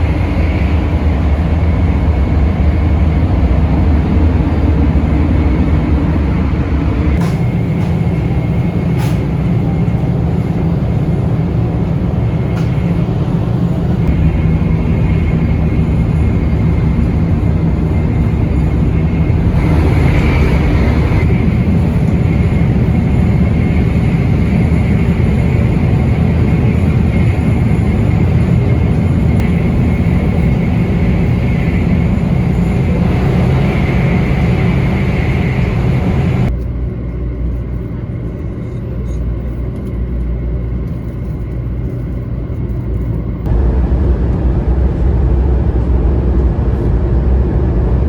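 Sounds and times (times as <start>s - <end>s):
faint train whine: 0.0s - 48.0s
train rumbling at speed: 0.0s - 48.0s.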